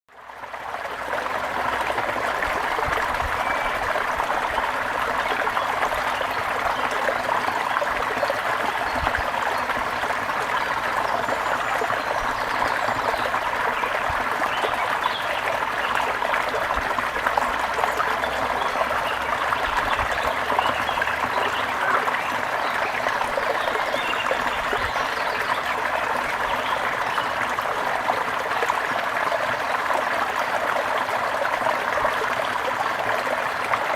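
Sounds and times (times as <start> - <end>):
brook babbling: 0.1 - 33.9.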